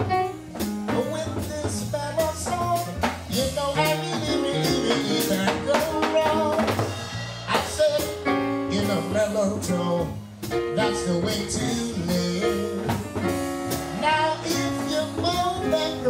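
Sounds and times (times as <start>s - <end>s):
drum kit: 0.0s - 16.0s
live jazz combo playing: 0.0s - 16.0s
man singing: 0.9s - 6.9s, 7.5s - 16.0s.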